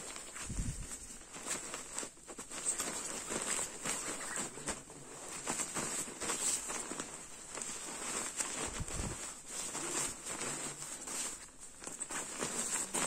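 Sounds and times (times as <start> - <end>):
sleeping bag rustling: 0.0 - 13.0.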